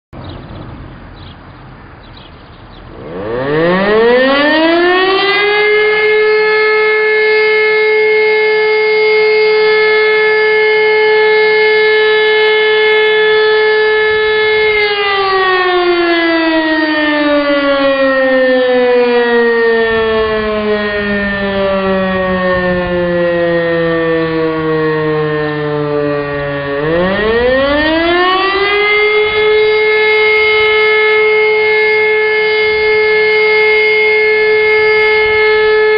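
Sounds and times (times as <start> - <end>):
civil defence siren howling: 0.4 - 35.9.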